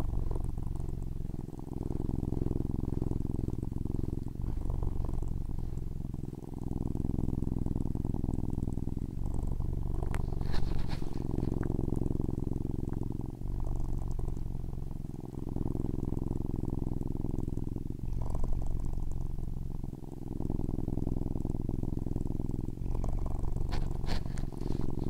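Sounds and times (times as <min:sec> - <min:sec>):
cat purring loudly: 0:00.0 - 0:25.0
faint crackles: 0:00.0 - 0:25.0.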